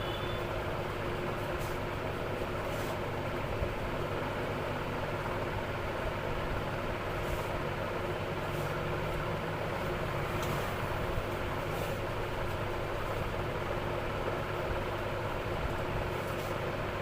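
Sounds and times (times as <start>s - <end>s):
vehicle traffic rumble: 0.0s - 17.0s.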